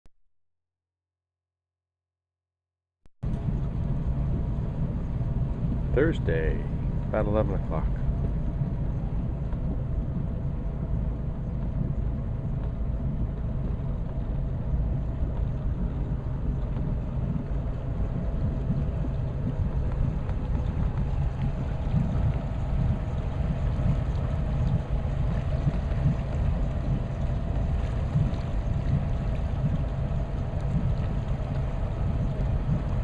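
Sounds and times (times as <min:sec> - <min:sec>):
motorboat engine droning: 0:03.2 - 0:33.0.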